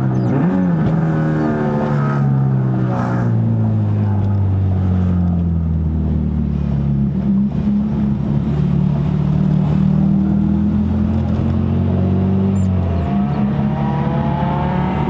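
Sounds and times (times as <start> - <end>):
car engine droning: 0.0 - 15.0
rising engine whine: 0.0 - 15.0.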